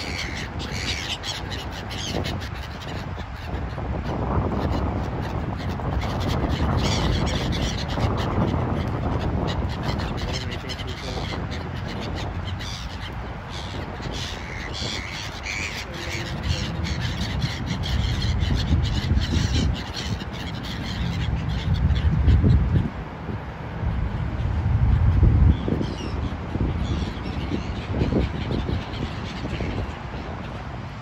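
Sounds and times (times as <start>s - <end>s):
gulls calling: 0.0s - 31.0s.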